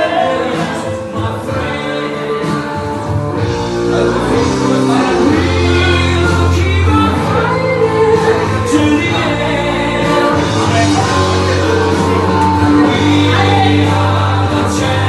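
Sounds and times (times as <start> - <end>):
loud music with singing: 0.0 - 15.0
steady bass line: 0.0 - 15.0.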